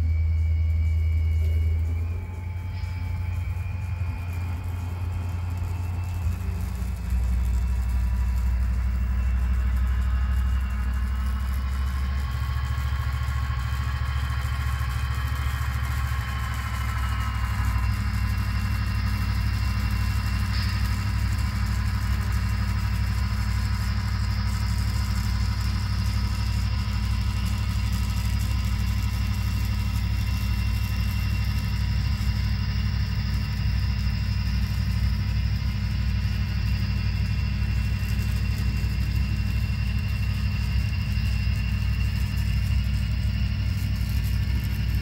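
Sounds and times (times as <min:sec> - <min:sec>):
diesel locomotive engine rumble: 0:00.0 - 0:45.0
high whine: 0:00.0 - 0:45.0.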